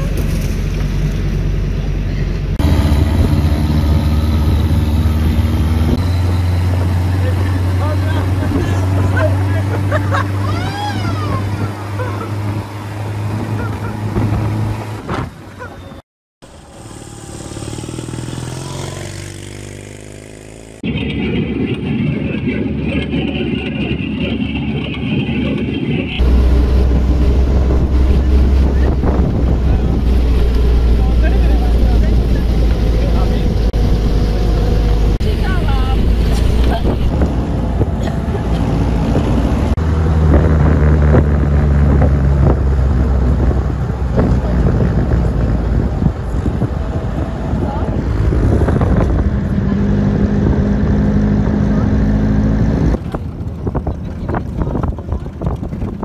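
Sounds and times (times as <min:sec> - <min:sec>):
deep jeep engine driving: 0:00.0 - 0:56.0
low engine rumble: 0:00.0 - 0:56.0.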